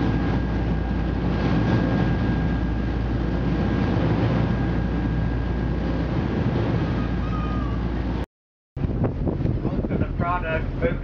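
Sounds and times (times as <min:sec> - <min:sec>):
boat engine drone: 0:00.0 - 0:08.2, 0:08.8 - 0:11.0
wind noise: 0:00.0 - 0:08.2, 0:08.8 - 0:11.0
water noise: 0:00.0 - 0:11.0.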